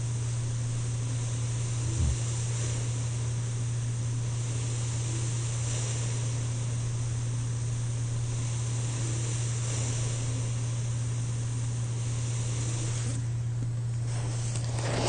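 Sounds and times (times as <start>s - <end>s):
machine humming: 0.0s - 15.0s
air hissing: 0.9s - 15.0s.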